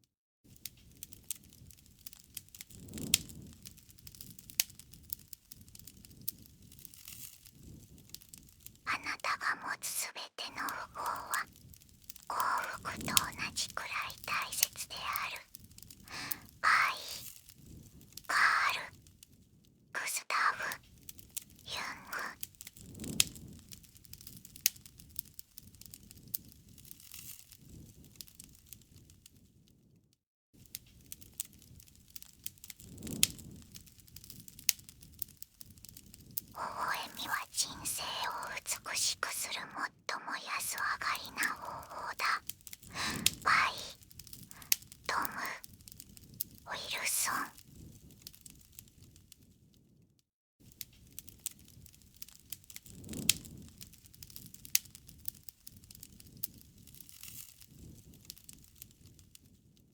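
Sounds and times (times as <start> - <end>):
low rumble of flames: 0.5 - 9.1, 10.8 - 16.6, 17.2 - 19.9, 20.7 - 30.0, 30.6 - 37.3, 41.2 - 59.9
campfire crackling and popping: 0.5 - 19.8, 20.4 - 29.6, 30.6 - 40.0, 40.6 - 49.6, 50.6 - 59.8.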